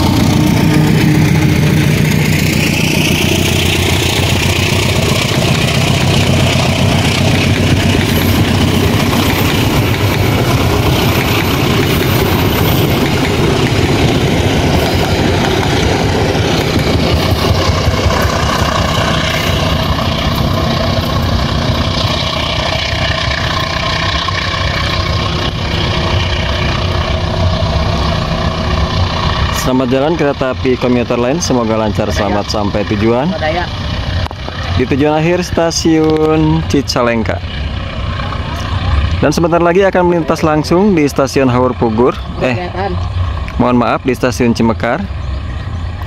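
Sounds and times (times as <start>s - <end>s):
train diesel engine running: 0.0s - 46.0s.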